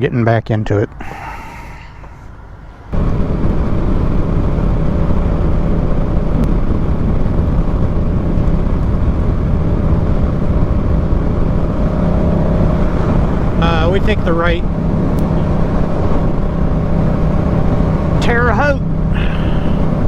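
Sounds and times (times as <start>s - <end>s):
motorcycle engine drone: 0.0s - 20.0s
wind and road noise: 0.0s - 20.0s.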